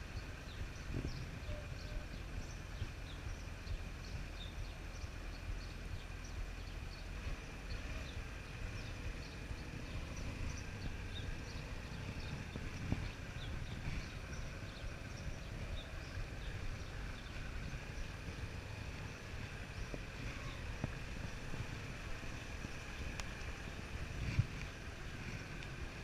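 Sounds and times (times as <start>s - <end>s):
birds chirping: 0.0s - 26.0s
motorcycle engine rumbling: 0.0s - 26.0s.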